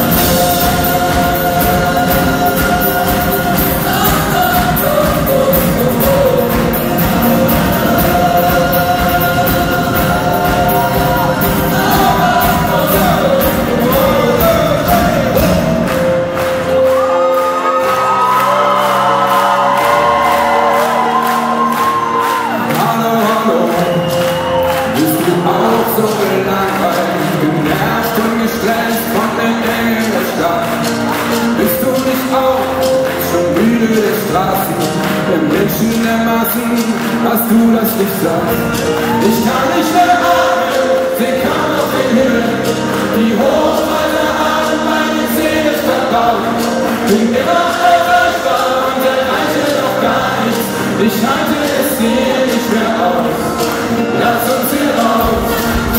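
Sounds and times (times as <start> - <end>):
gospel choir singing: 0.0 - 55.9
live rock band: 0.0 - 55.9.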